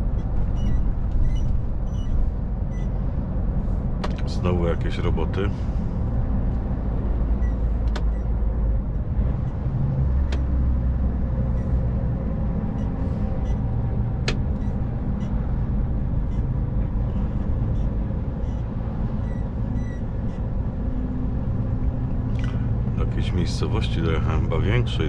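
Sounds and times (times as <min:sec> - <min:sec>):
diesel engine drone: 0:00.0 - 0:25.0
road noise: 0:00.0 - 0:25.0.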